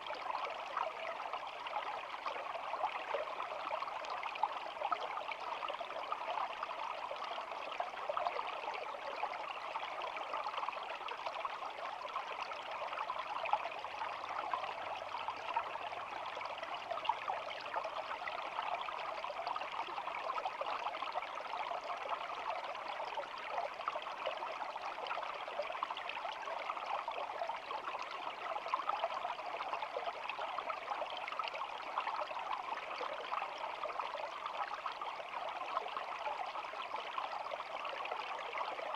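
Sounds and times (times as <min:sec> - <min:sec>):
stream babbling and trickling: 0:00.0 - 0:38.9.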